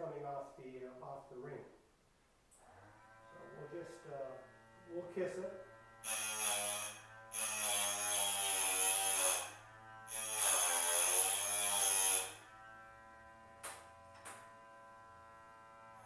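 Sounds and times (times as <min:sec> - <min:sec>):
electric grinder whining: 0:02.6 - 0:16.0.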